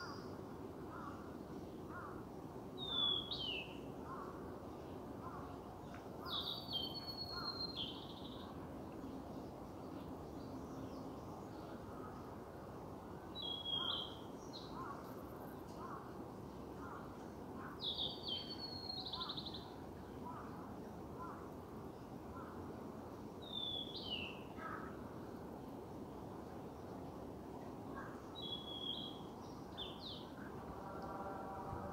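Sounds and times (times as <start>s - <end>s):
steady outdoor hiss: 0.0s - 31.9s.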